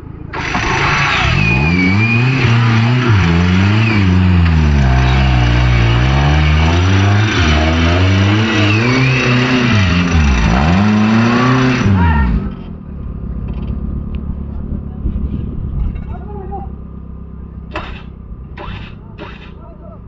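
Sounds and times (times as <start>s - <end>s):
vehicle engine revving: 0.0s - 20.0s.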